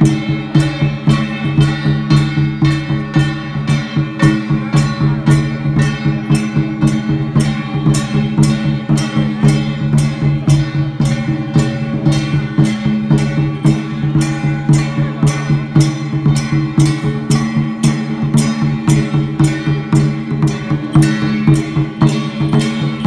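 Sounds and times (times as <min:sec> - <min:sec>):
sharp percussion strikes: 0:00.0 - 0:23.0.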